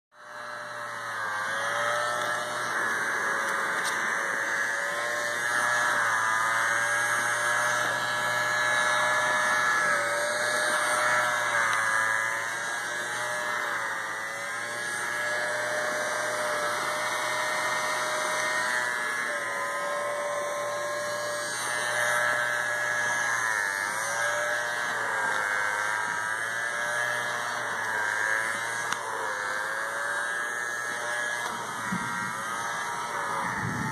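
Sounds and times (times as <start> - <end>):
handheld vacuum motor whine: 0.2 - 33.9.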